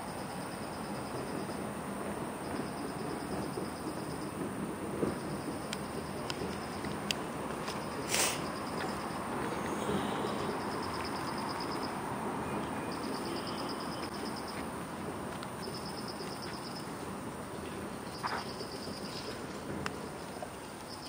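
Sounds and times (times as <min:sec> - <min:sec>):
distant city noise: 0:00.0 - 0:21.0.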